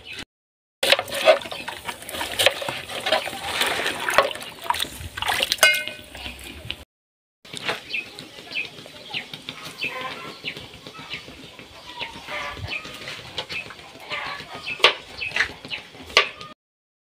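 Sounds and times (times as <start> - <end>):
birds chirping: 0.0 - 0.2, 1.1 - 6.8, 7.5 - 16.6.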